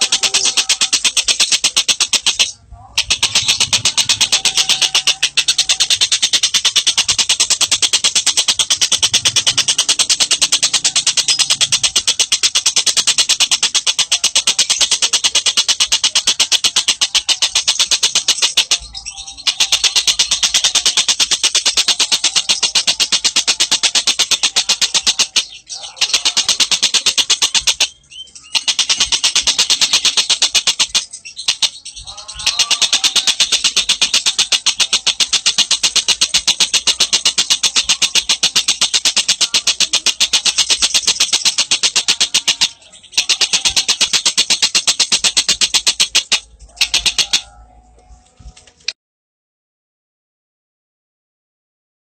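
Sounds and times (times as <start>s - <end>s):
songbird trilling: 0.0s - 47.7s.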